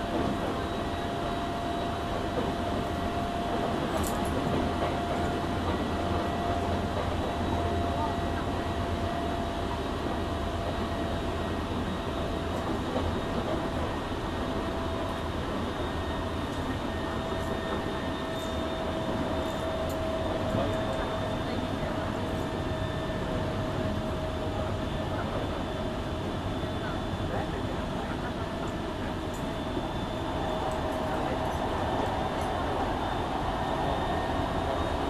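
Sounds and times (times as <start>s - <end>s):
steady train tone: 0.0s - 35.0s
train wheels rumbling on track: 0.0s - 35.0s.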